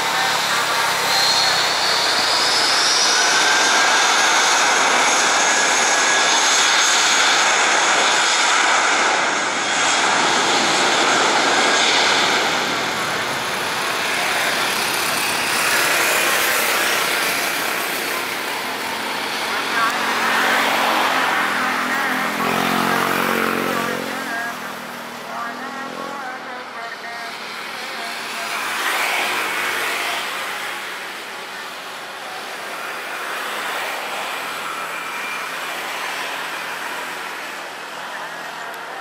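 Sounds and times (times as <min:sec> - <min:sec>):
engine whine: 0:00.0 - 0:39.0
jet engines roaring: 0:00.0 - 0:39.0.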